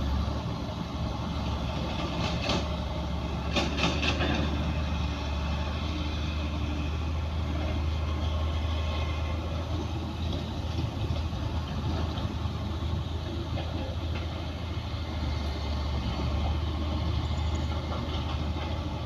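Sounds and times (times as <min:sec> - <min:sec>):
diesel machinery engine drone: 0:00.0 - 0:19.0.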